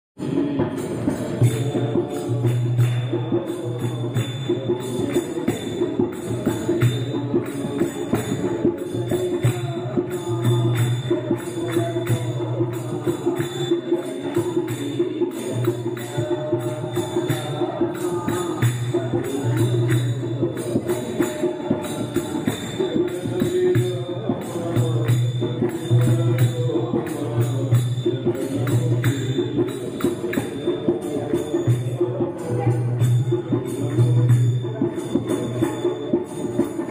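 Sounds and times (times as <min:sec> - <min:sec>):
jingling percussion beat: 0:00.2 - 0:36.9.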